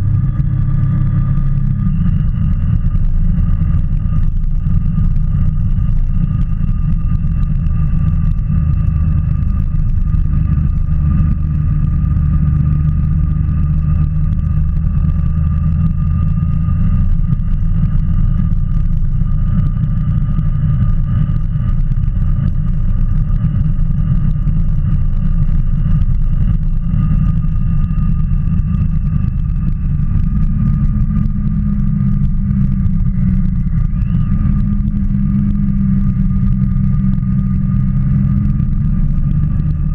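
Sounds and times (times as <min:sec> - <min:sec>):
motorcycle engine rumble: 0:00.0 - 0:39.9.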